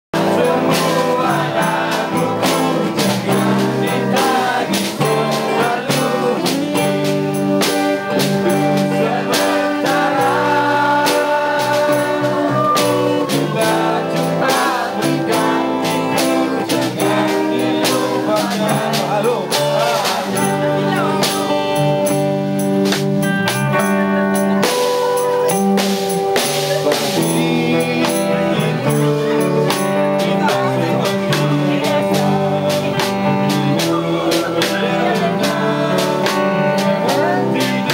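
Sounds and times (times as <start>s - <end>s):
person singing: 0.2s - 22.4s, 23.2s - 37.9s
strummed acoustic guitar: 0.2s - 37.9s.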